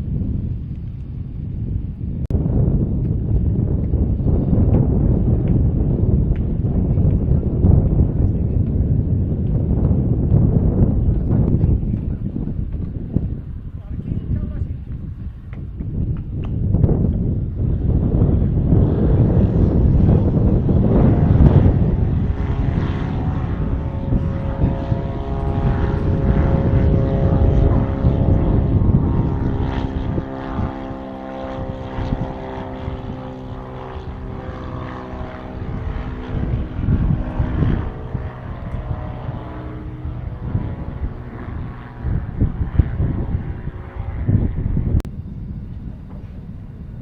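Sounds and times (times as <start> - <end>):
aircraft engines humming: 0.0 - 47.0.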